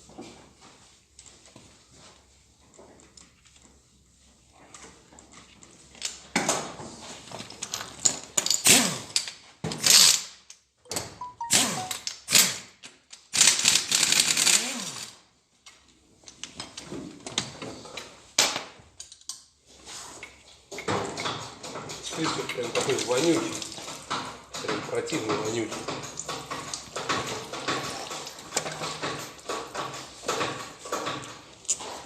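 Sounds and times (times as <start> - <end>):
tools scraping and knocking engine parts: 4.7 - 14.6, 15.6 - 32.0.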